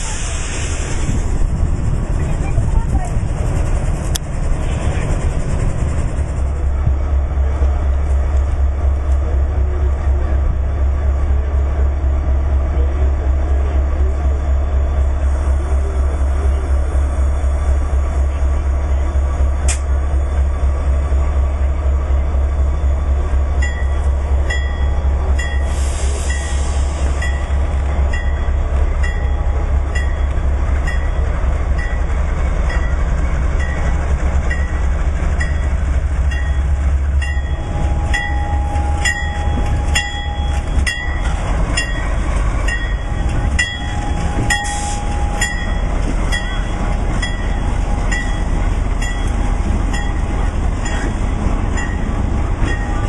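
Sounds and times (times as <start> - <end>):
diesel locomotive rumbling: 0.0 - 53.0.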